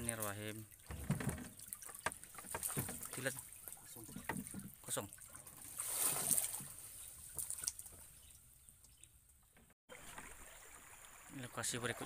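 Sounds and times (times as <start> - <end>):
water pouring and dripping: 0.0 - 12.0.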